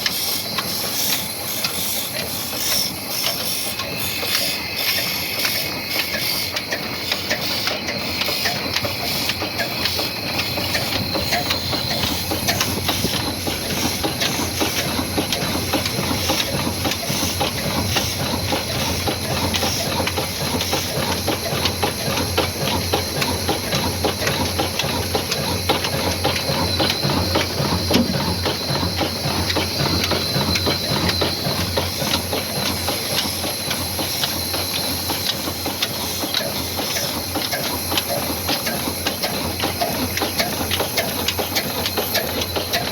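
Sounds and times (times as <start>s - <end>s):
diesel engine clattering: 0.0s - 42.9s.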